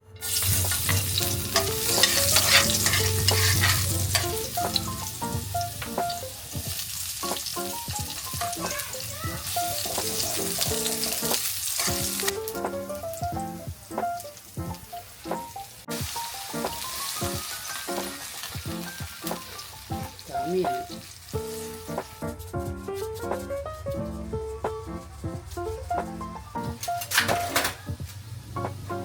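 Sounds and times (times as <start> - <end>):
food sizzling in hot oil: 0.1 - 25.8.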